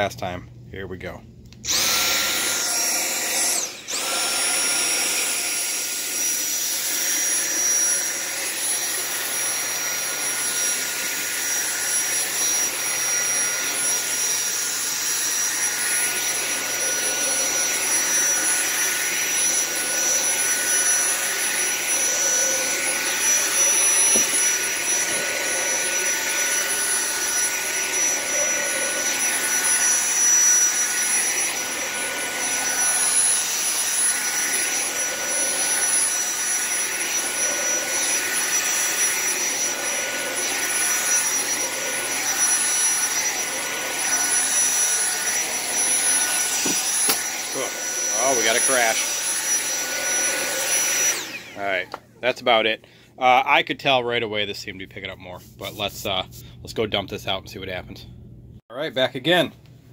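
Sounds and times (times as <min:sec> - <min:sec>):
vacuum cleaner motor whine: 0:01.7 - 0:52.1.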